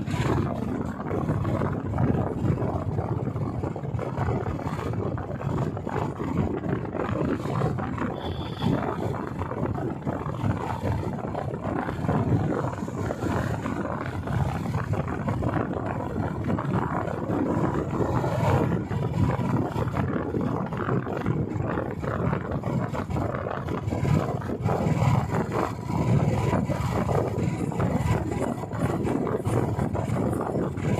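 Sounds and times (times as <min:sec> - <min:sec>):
motorcycle engine running: 0:00.0 - 0:30.9
wind rushing over microphone: 0:00.0 - 0:30.9.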